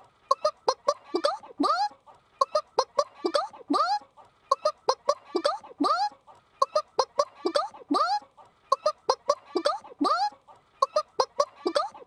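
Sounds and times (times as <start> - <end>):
person imitating a chicken: 0.3 - 12.0.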